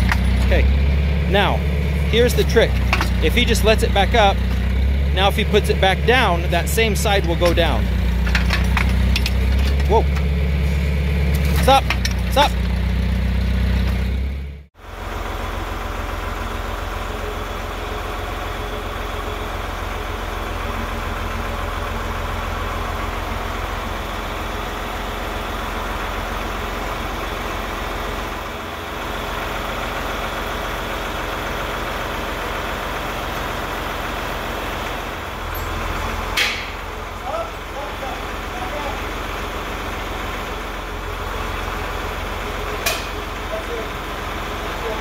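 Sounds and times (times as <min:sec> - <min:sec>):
tractor engine idling: 0:00.0 - 0:45.0.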